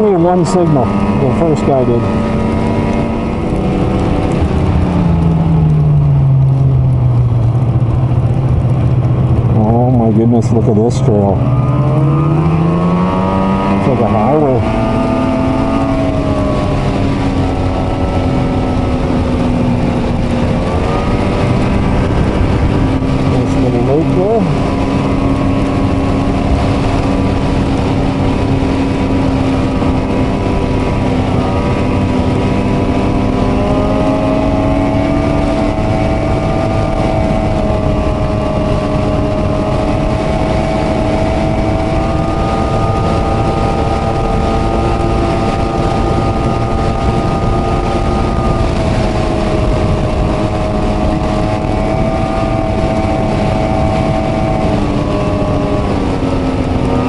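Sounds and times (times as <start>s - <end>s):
snowmobile engine cruising: 0.0s - 57.0s.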